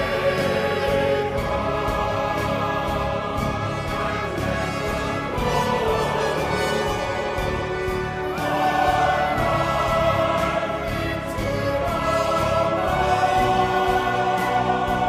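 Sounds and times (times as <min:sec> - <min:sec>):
choir singing held notes: 0:00.0 - 0:15.0
orchestral music: 0:00.0 - 0:15.0.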